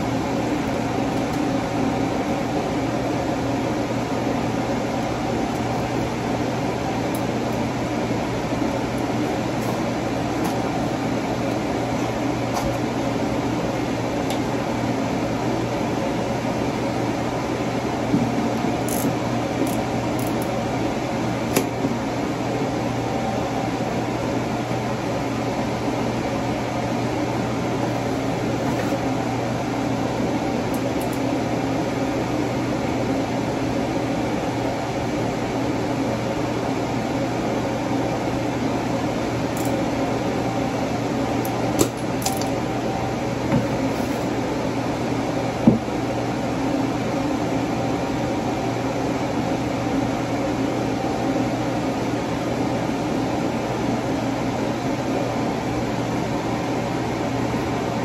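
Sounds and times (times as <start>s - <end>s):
fan humming: 0.0s - 58.0s.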